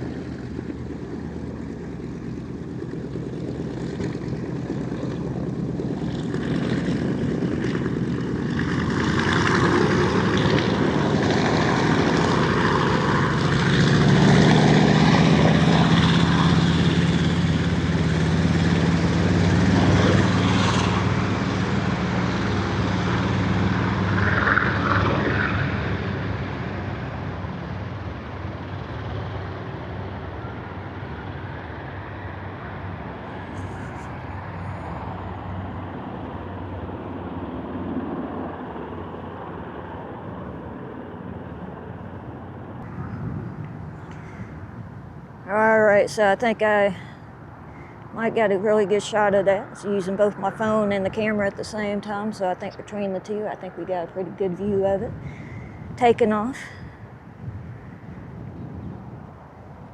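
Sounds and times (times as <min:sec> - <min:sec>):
propeller plane engines drone: 0:00.0 - 0:59.9.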